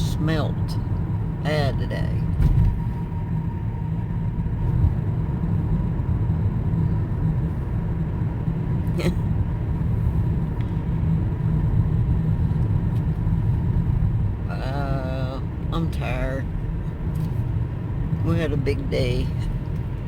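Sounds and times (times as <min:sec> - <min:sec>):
car driving rumble: 0:00.0 - 0:20.0.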